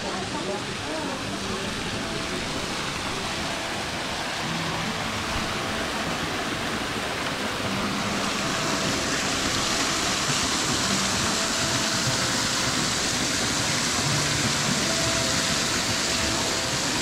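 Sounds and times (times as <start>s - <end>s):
water pouring over rock: 0.0s - 17.0s.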